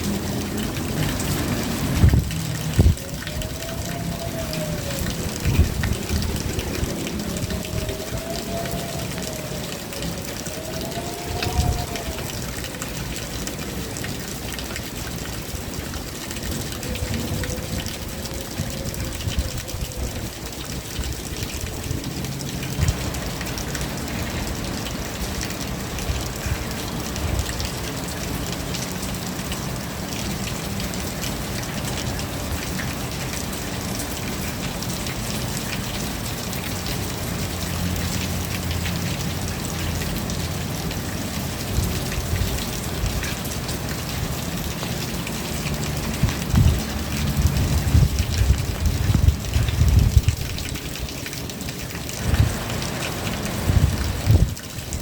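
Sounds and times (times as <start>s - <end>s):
drips or taps: 0.0s - 54.6s
rain falling: 0.0s - 55.0s.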